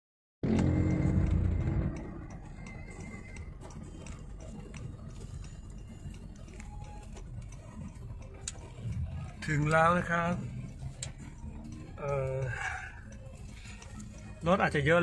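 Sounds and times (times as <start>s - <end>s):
car cabin road rumble: 0.4s - 15.0s
faint ticking: 0.4s - 15.0s.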